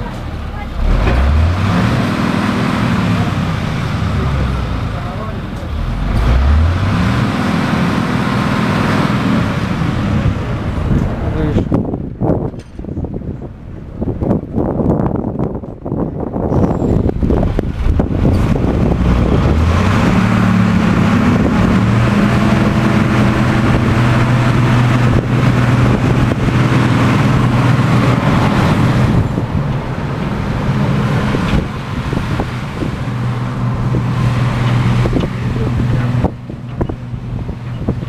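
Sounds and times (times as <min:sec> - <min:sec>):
motor vehicle engine running: 0:00.0 - 0:38.0.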